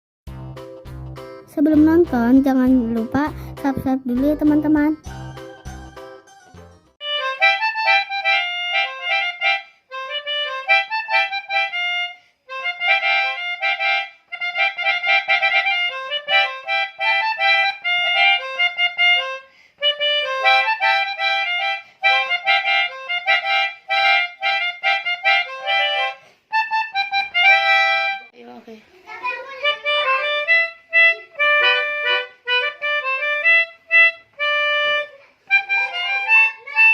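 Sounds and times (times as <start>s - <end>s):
melodica playing quick reed notes: 5.0s - 28.3s, 29.6s - 36.9s.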